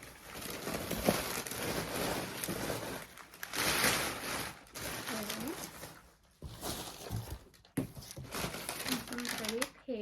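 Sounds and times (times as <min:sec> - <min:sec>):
packing paper crinkling and rustling: 0:00.0 - 0:10.0.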